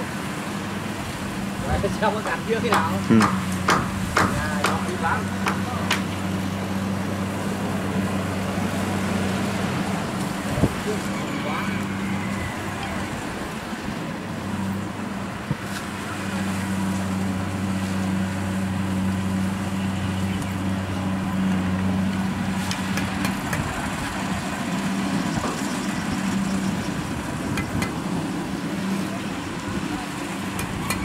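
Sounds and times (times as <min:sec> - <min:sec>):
diesel engine running: 0:00.0 - 0:31.0
harvester machinery noise: 0:00.0 - 0:31.0.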